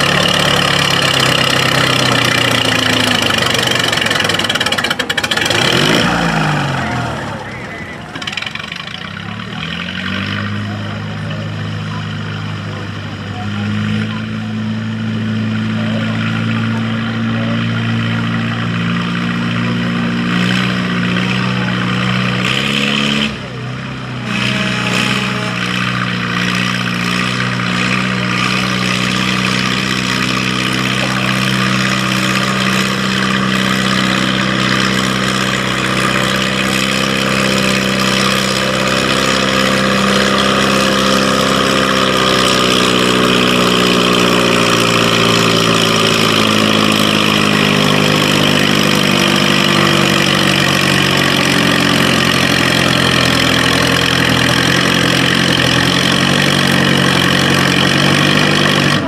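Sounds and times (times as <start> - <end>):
tractor engine running hard: 0.0 - 59.0.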